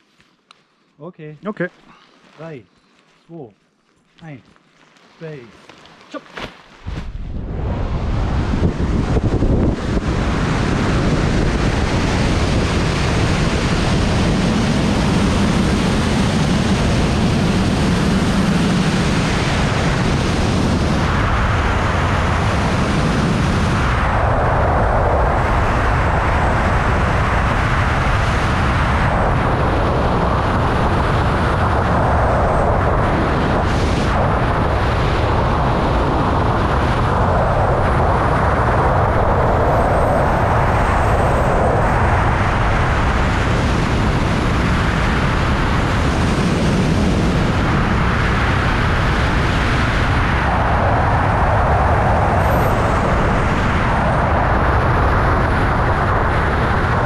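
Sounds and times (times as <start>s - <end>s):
wind roaring over microphone: 6.8s - 57.0s.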